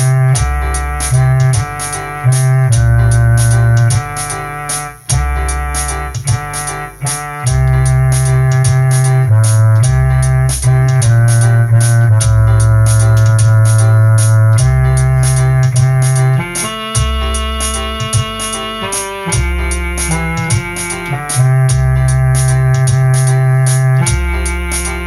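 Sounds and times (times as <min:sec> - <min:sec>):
deep bass line: 0:00.0 - 0:25.0
electronic keyboard chords: 0:00.0 - 0:25.0
steady drum beat: 0:00.0 - 0:25.0.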